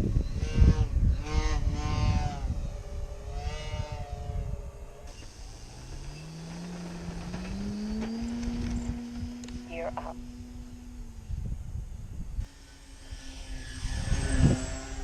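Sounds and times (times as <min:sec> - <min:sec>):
low motor tone rising: 0:00.0 - 0:15.0
model plane motors whining: 0:00.0 - 0:15.0
wind rumble on microphone: 0:00.0 - 0:15.0.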